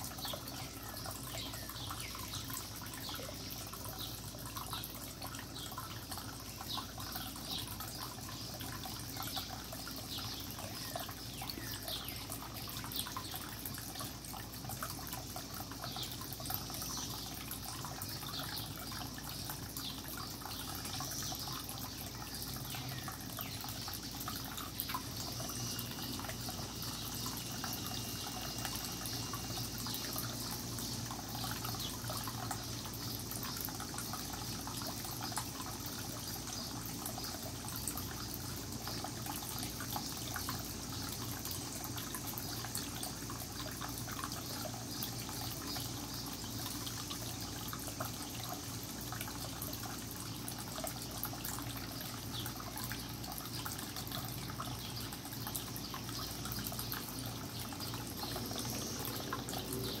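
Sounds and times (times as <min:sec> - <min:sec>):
fountain water trickling and splashing: 0:00.0 - 1:00.0.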